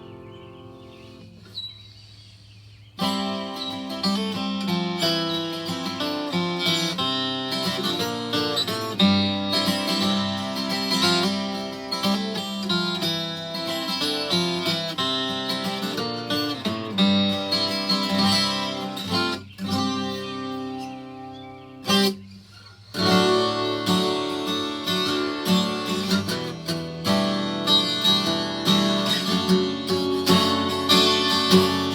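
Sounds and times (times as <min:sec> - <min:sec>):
twelve-string acoustic guitar: 0:00.0 - 0:01.7, 0:03.0 - 0:31.9.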